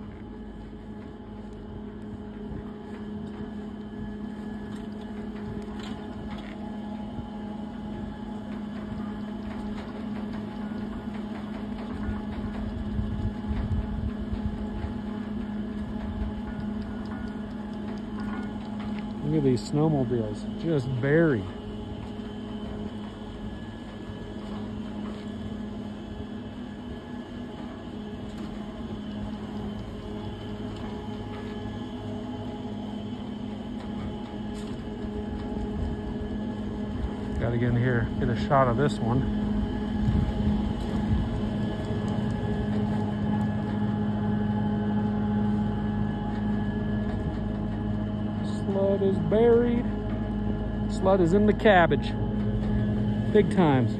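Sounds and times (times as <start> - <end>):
machinery humming: 0.0 - 53.9.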